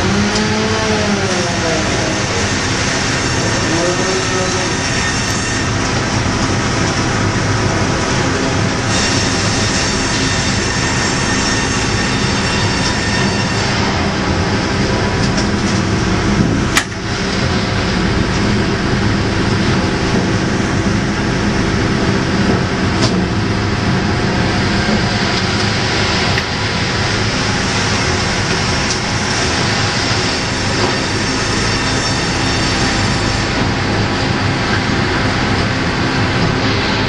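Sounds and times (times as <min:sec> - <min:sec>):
sawmill machinery running: 0:00.0 - 0:37.0.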